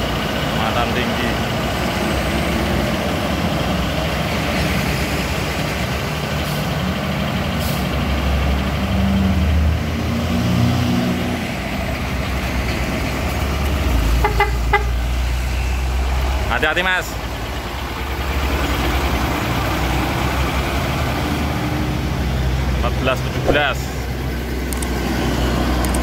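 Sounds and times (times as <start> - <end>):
diesel trucks passing: 0.0 - 26.0
truck engine rising in pitch: 0.0 - 26.0.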